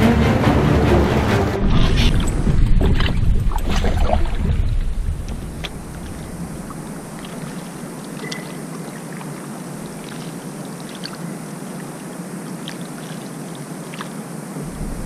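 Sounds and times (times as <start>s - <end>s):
water lapping against boat hull: 2.5s - 15.0s.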